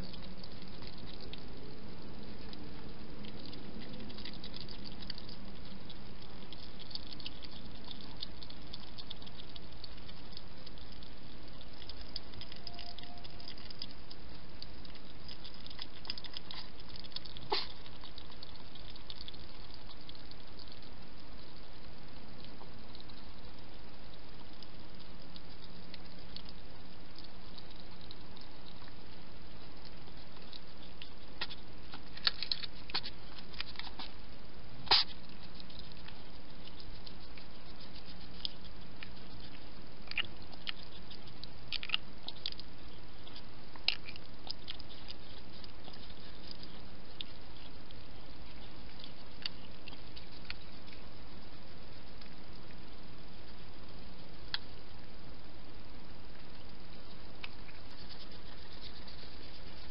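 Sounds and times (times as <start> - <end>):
faint low hum: 0.0 - 59.9
hedgehogs foraging clicks: 0.0 - 59.9
steady hiss: 0.0 - 59.9.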